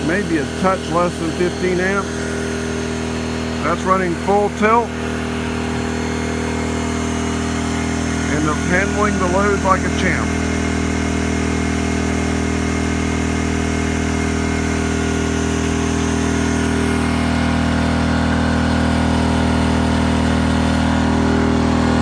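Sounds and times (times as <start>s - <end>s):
generator droning: 0.0s - 22.0s.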